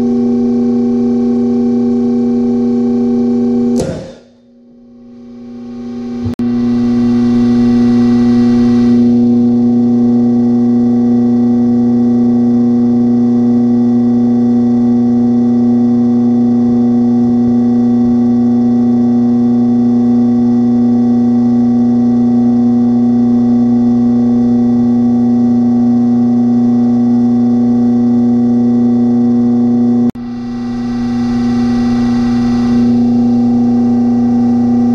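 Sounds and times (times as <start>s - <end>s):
droning music note: 0.0s - 18.4s, 22.4s - 34.9s.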